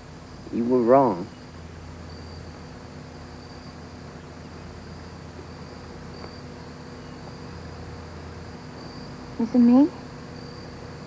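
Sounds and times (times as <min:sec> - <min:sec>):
insects trilling: 0:00.0 - 0:11.0
steady hiss and low hum: 0:00.0 - 0:11.0.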